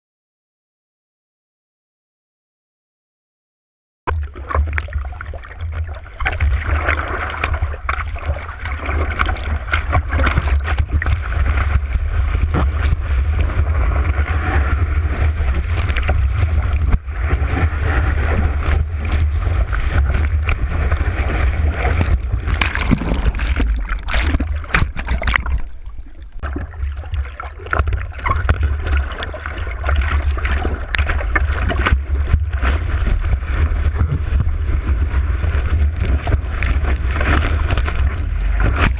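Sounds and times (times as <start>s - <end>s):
breaking surf: 6.3s - 38.9s.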